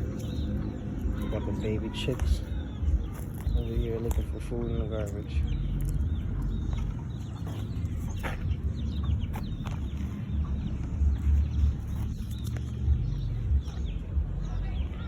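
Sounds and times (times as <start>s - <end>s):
baby chicks peeping: 0.0s - 15.0s
steady low rumble: 0.0s - 15.0s.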